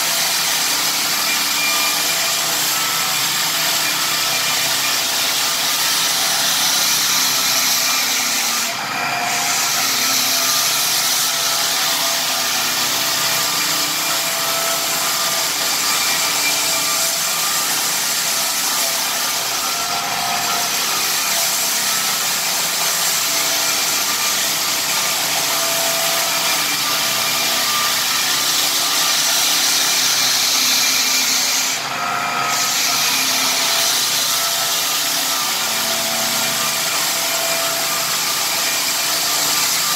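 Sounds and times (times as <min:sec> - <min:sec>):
drum sander sanding wood: 0:00.0 - 0:39.9.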